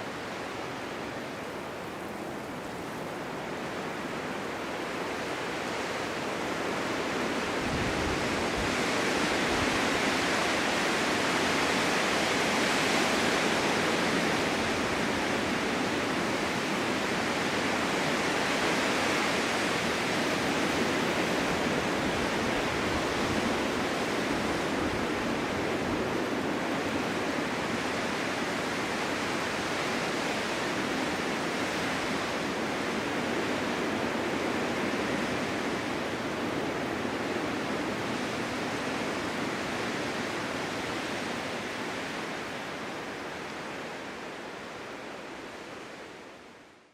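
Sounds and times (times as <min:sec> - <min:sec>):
snowstorm wind blowing: 0:00.0 - 0:46.6.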